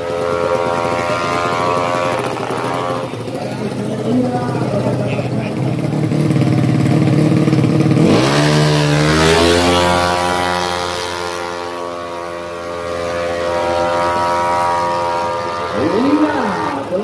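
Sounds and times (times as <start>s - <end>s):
scooter engine revving: 0.0s - 17.0s.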